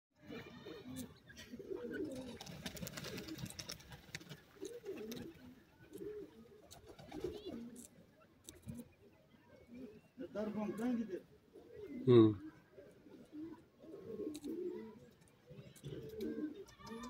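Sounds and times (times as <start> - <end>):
birds giving wavering coo calls: 0.2 - 17.0.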